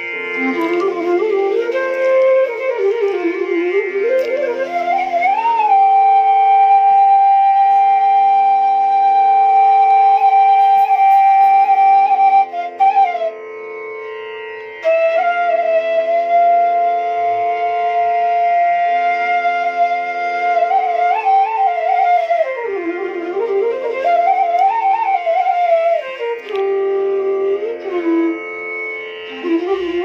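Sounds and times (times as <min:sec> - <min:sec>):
flute melody: 0:00.0 - 0:30.0.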